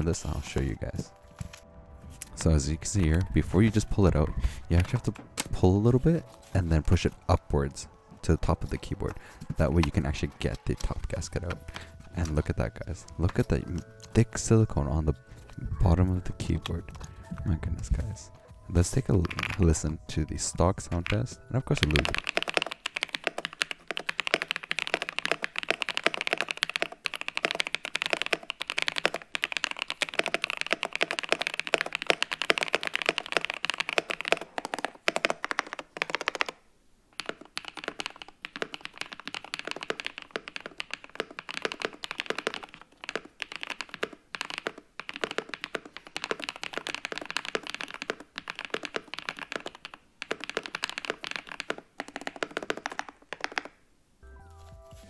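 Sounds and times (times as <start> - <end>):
fast typing on mechanical keyboard: 0.0 - 53.8.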